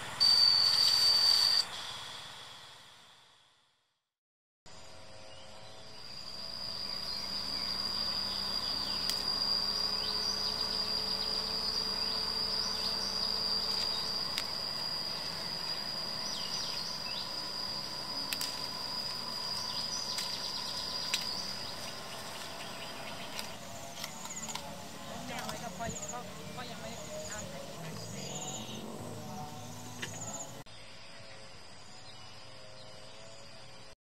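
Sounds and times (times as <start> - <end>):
insects trilling: 4.7 - 34.0.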